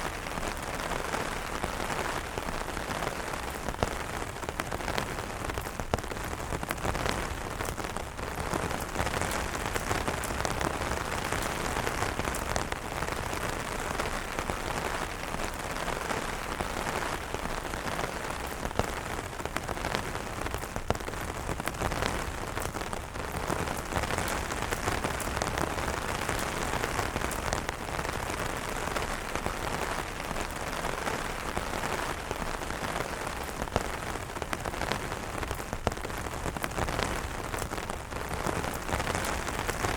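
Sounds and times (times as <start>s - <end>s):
rain falling on umbrellas: 0.0s - 39.9s.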